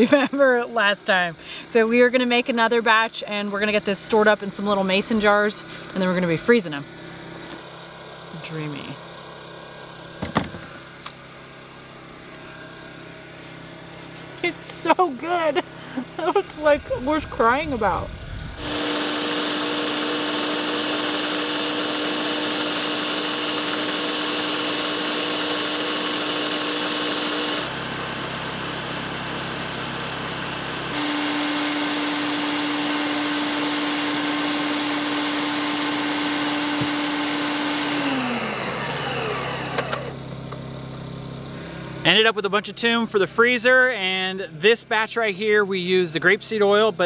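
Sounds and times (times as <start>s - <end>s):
food processor motor whining: 3.6s - 42.0s.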